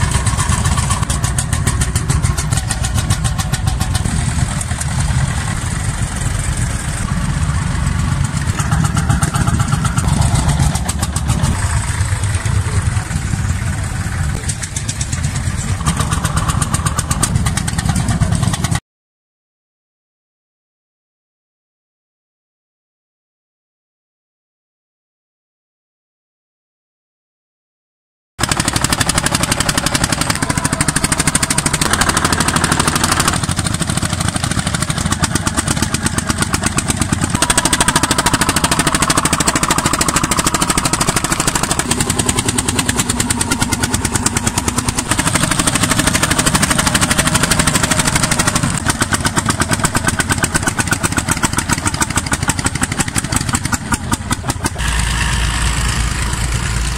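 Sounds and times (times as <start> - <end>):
tractor engine exhaust beats: 0.0 - 18.8, 28.4 - 56.9.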